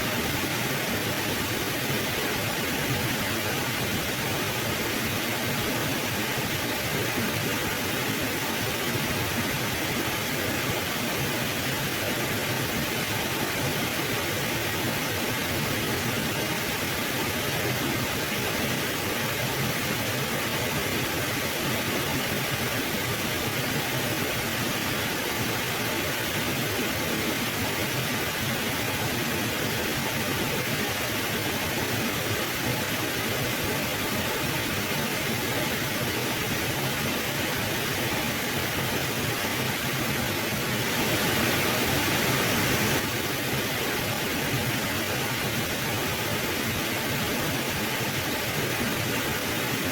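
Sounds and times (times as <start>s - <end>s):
river water flowing: 0.1s - 49.9s.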